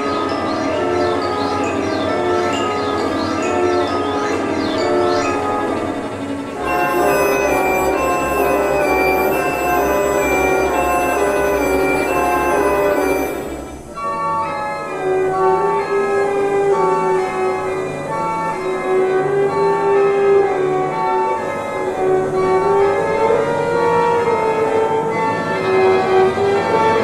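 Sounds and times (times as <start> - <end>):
slow instrumental ensemble music: 0.3 - 27.0.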